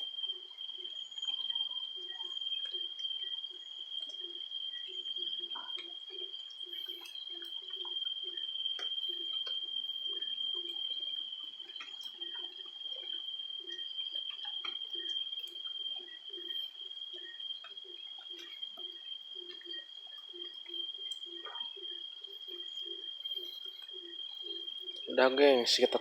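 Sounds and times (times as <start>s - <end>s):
frogs croaking: 0.0s - 26.0s
steady high-pitched whine: 0.0s - 26.0s.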